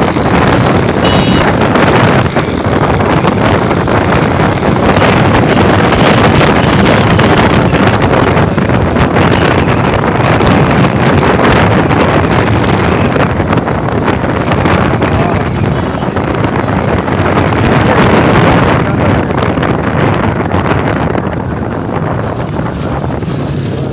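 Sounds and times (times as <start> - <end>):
motorcycle engine: 0.0 - 23.9
wind rushing over microphone: 0.0 - 23.9.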